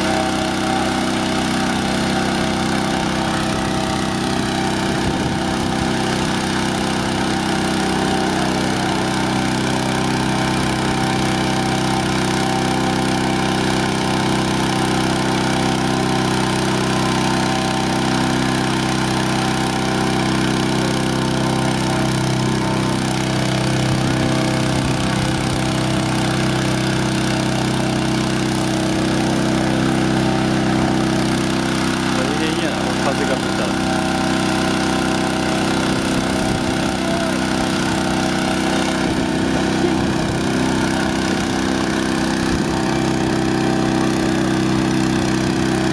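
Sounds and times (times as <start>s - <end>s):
engine-driven fan running: 0.0s - 45.9s.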